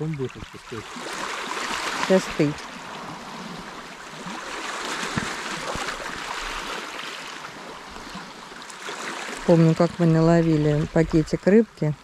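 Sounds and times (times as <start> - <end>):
waves lapping on rocks and pebbles: 0.0 - 11.5.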